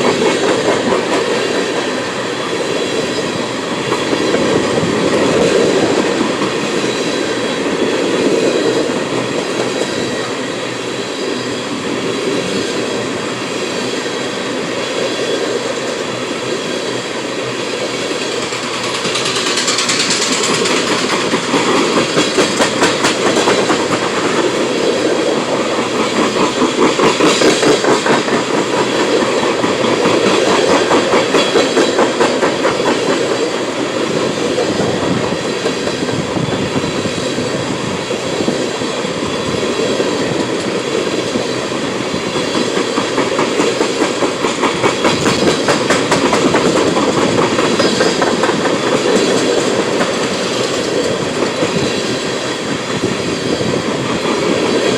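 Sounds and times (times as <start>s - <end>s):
train wheels clacking on rail joints: 0.0s - 54.9s.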